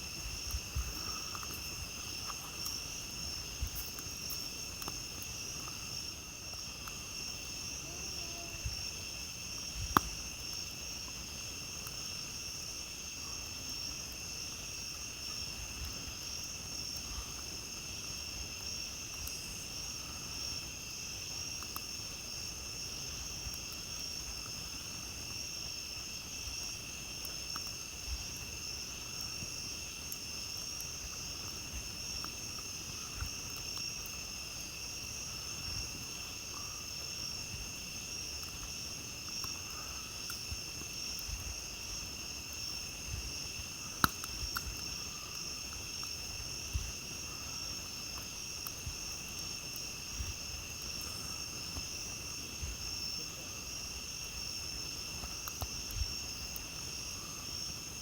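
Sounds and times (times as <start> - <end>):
campfire crackling and popping: 0.0 - 58.0
crickets and night insects: 0.0 - 58.0.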